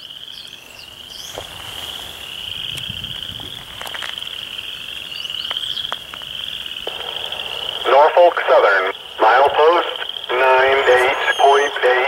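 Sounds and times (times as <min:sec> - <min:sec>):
frogs trilling: 0:00.0 - 0:12.0.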